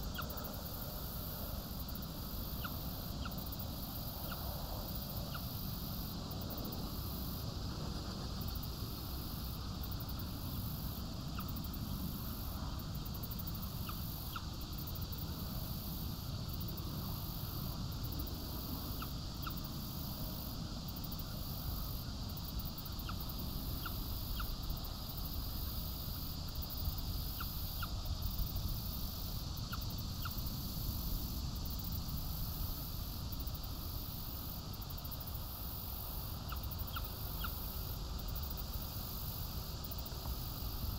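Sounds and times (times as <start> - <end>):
low rumble and hiss: 0.0 - 40.9.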